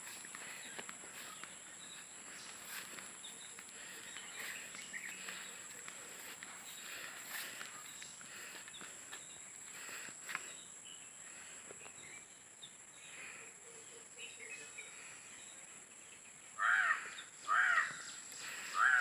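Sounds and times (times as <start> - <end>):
distant bird chirps: 0.0 - 19.0.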